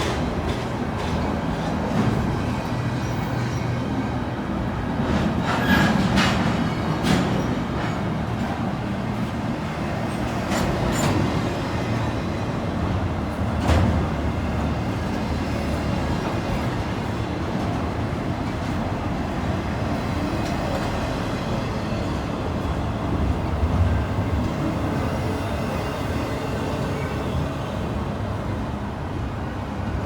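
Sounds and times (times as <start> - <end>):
train cars clanking: 0.0 - 29.2
train wheels rumbling on rail: 0.0 - 30.0.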